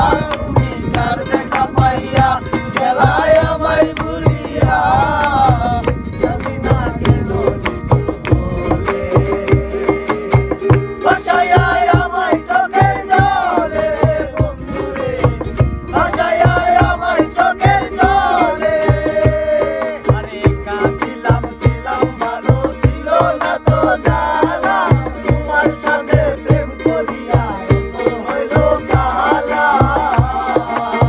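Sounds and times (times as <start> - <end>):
box drum thumps: 0.0 - 31.0
men singing together: 0.0 - 31.0
strummed ukulele: 0.0 - 31.0.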